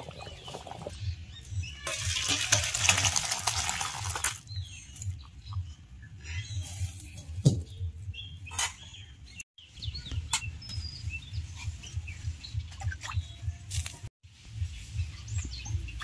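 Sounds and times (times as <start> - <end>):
small birds chirping: 0.0 - 2.2, 4.4 - 16.0.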